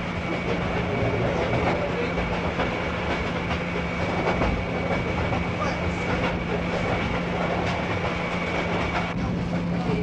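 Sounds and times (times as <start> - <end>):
train rumbling along rails: 0.0 - 10.0
wheels clicking over rail joints: 0.2 - 10.0.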